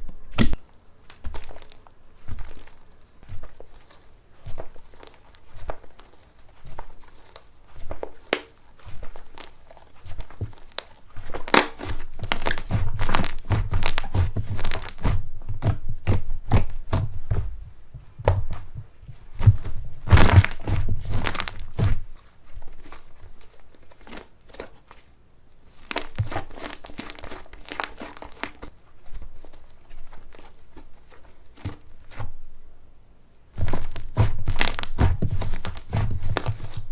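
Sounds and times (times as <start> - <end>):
slime squeezed by hand: 0.3 - 15.7, 19.3 - 24.8, 25.7 - 32.2, 33.6 - 36.9.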